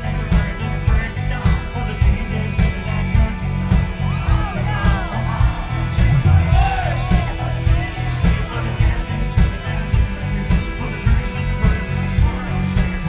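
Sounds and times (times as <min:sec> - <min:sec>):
heavy drum beat: 0:00.0 - 0:13.0
live country-rock band: 0:00.0 - 0:13.0
people singing and shouting: 0:00.0 - 0:13.0.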